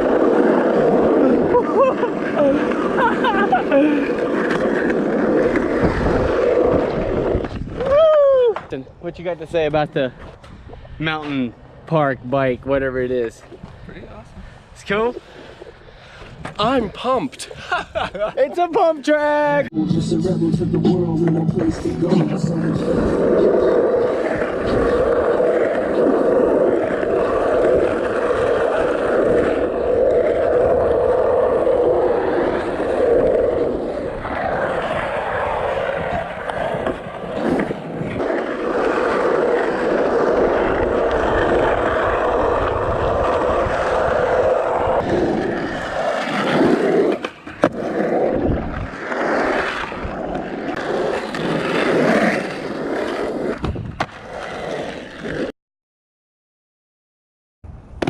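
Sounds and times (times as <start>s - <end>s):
skateboard wheels rolling: 0.0s - 55.5s.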